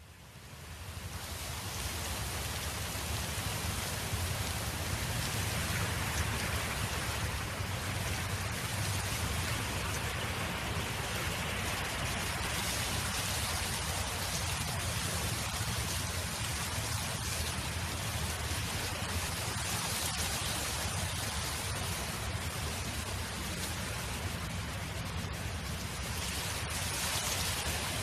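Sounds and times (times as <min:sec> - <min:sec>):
wind noise: 0:00.8 - 0:28.0.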